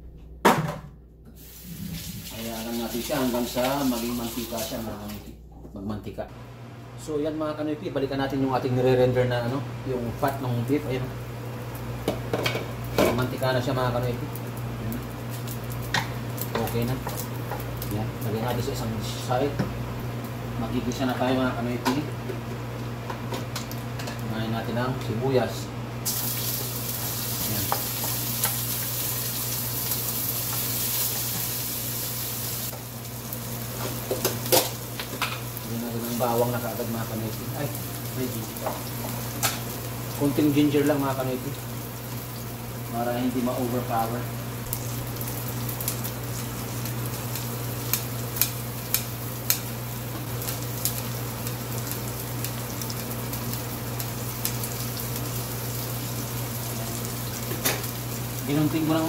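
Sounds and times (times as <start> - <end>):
onions sizzling in a frying pan: 1.3 - 5.1, 9.6 - 24.6, 26.0 - 59.0.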